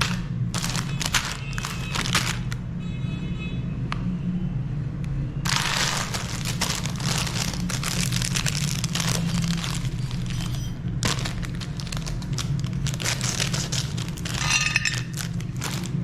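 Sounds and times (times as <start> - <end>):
chocolate crunching in grinder: 0.0 - 2.6, 5.5 - 16.0.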